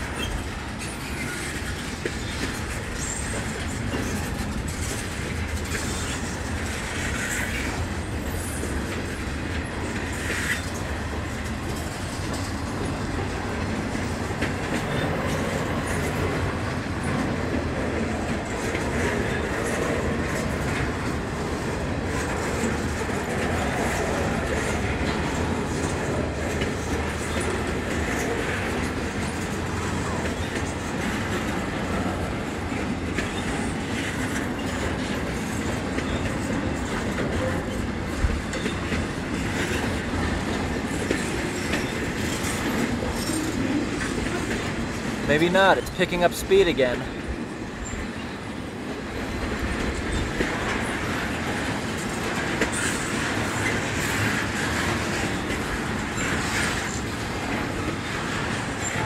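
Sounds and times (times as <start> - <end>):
freight train rumbling: 0.0 - 59.0
wheels clacking over rail joints: 0.0 - 59.0.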